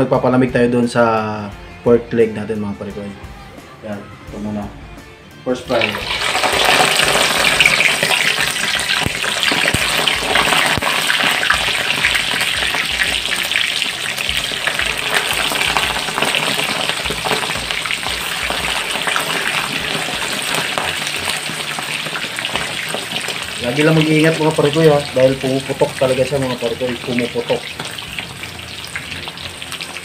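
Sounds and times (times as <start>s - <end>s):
food sizzling in hot oil: 5.7s - 30.0s.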